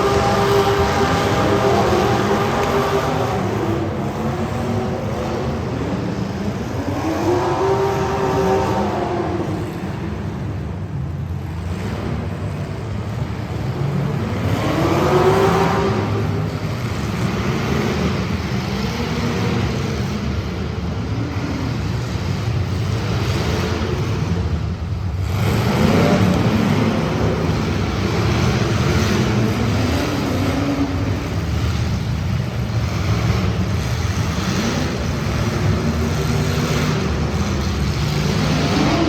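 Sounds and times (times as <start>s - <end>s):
continuous engine rumble: 0.0s - 39.0s
race car engines revving past: 0.0s - 39.0s.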